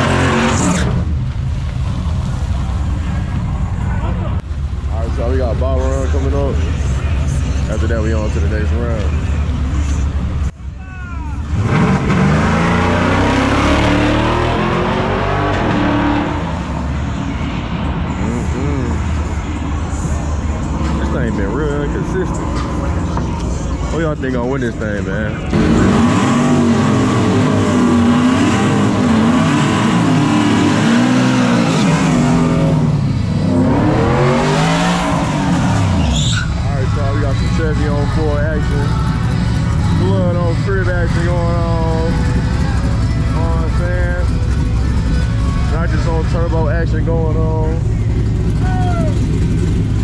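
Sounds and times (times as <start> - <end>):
truck engine accelerating hard: 0.0 - 10.5, 11.4 - 50.0.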